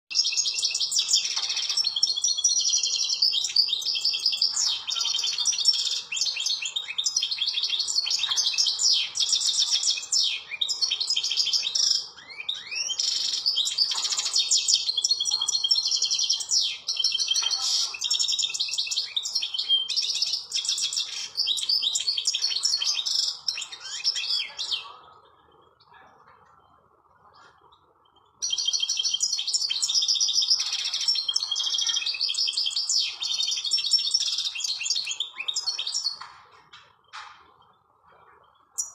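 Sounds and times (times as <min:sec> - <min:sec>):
finch twittering song: 0:00.1 - 0:38.9.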